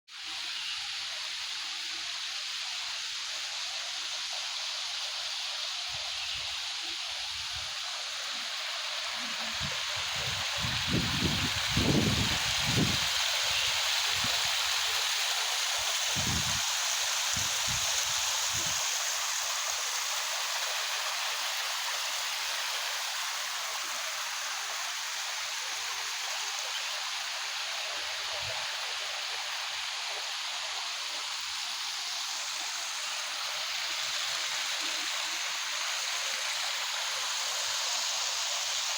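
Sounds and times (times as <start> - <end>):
waterfall rushing: 5.6 - 38.9.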